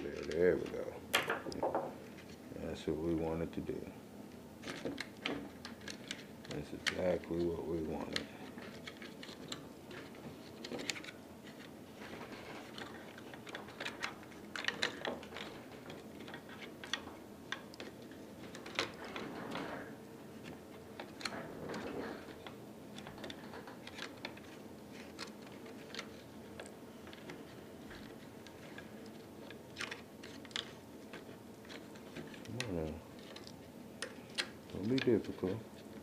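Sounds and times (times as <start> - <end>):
plastic parts clicking and scraping: 4.6 - 36.0.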